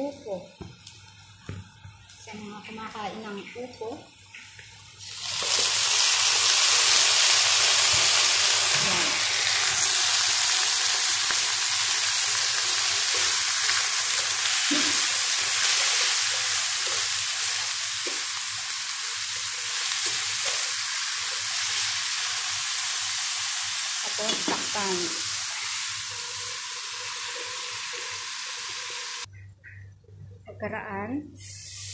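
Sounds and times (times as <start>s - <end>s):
vegetables sizzling in hot oil: 3.5s - 29.3s.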